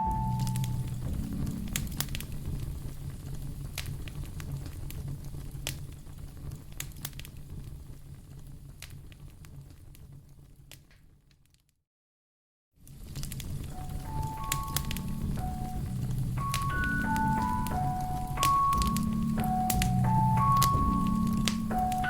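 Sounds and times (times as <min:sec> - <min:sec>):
fire crackling: 0:00.0 - 0:11.2, 0:12.8 - 0:22.0.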